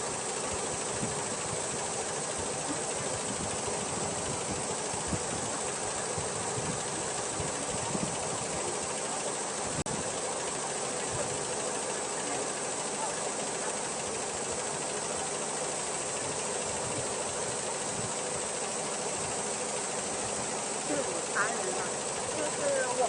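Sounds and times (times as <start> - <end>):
embroidery machine clattering: 0.0 - 23.0.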